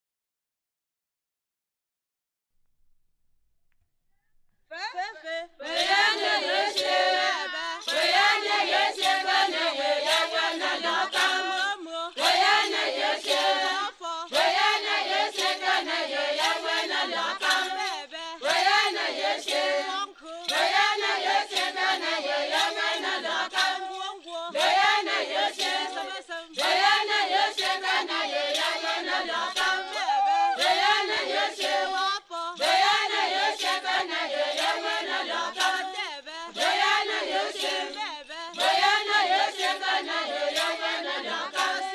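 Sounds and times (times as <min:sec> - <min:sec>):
choir singing: 0:05.6 - 0:41.9.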